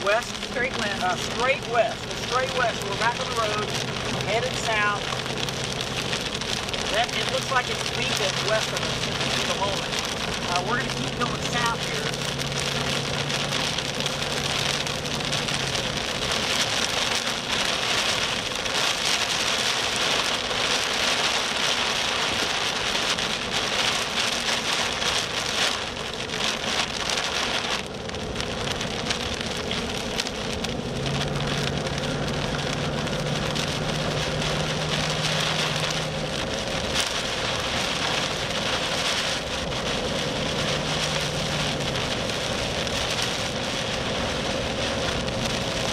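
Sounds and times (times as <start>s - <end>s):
rain drumming on vehicle roof: 0.0s - 45.9s
road noise: 0.0s - 45.9s.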